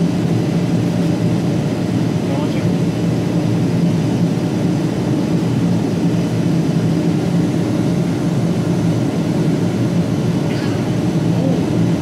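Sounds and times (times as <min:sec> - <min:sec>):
low machine drone: 0:00.0 - 0:12.0.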